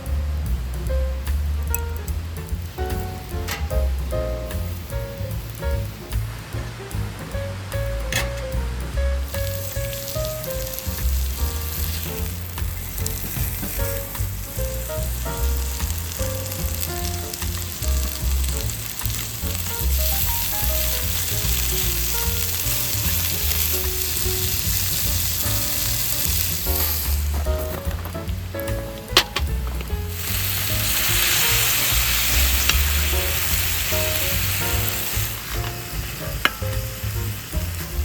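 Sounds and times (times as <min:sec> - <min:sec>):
background music with bass: 0:00.0 - 0:38.0
sizzling hiss: 0:00.0 - 0:38.0.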